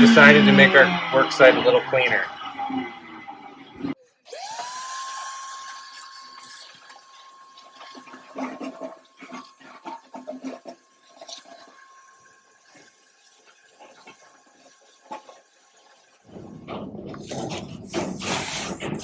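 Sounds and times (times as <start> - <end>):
shop vacuum motor whining: 0.0 - 19.0.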